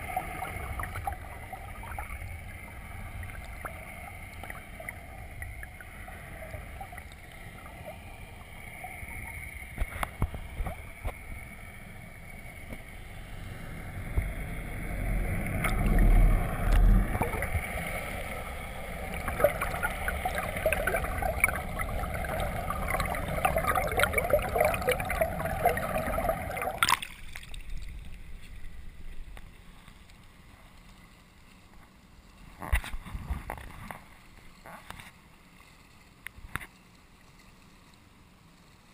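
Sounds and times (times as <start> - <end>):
crackling splashes: 0.0 - 38.9
muffled underwater water sloshing: 0.0 - 38.9.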